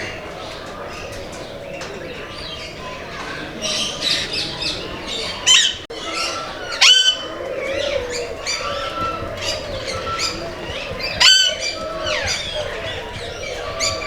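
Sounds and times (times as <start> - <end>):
aviary birds chirping and whistling: 0.0 - 14.0.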